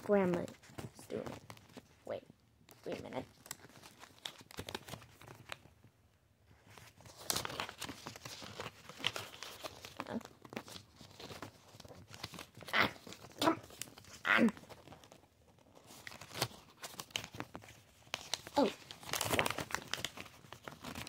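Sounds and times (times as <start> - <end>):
paper crinkling and rustling: 0.0 - 21.0.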